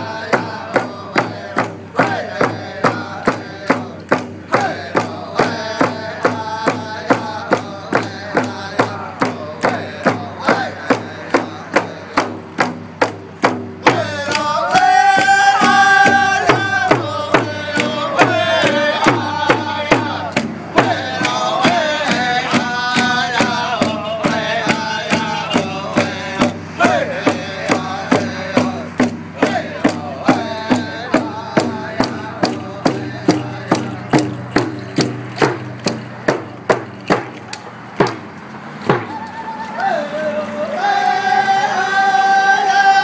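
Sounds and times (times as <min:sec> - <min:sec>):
men singing a chant: 0:00.0 - 0:36.5, 0:38.9 - 0:43.0
frame drums beating: 0:00.0 - 0:39.4.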